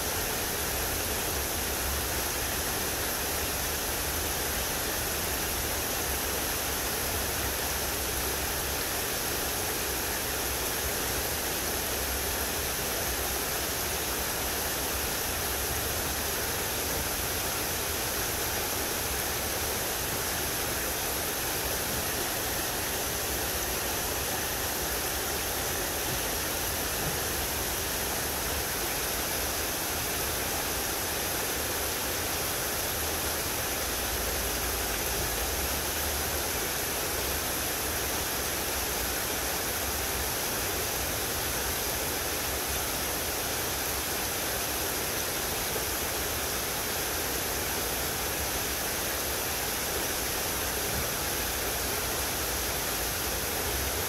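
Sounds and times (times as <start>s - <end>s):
creek rushing over stones: 0.0s - 54.0s.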